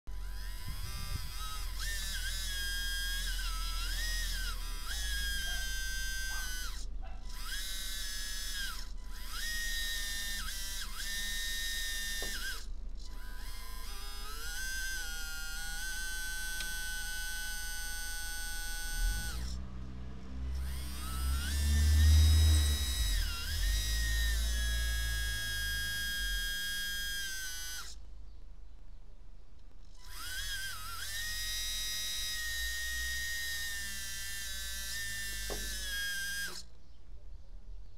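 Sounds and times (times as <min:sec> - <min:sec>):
small electric motor whining: 0:00.1 - 0:28.3, 0:29.6 - 0:37.0.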